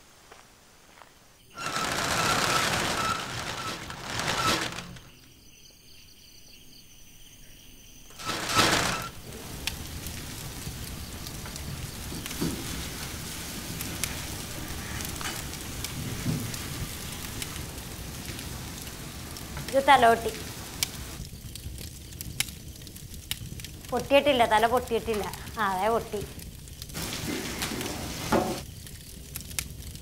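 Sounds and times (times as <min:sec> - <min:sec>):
fire crackling and hissing: 0:00.0 - 0:05.3, 0:08.1 - 0:30.0.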